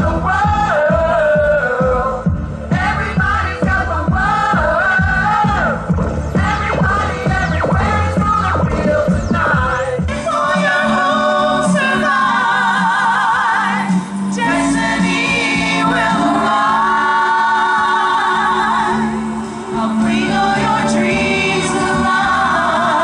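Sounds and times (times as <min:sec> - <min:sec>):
musical backing: 0:00.0 - 0:23.0
voices singing in harmony: 0:00.0 - 0:23.0.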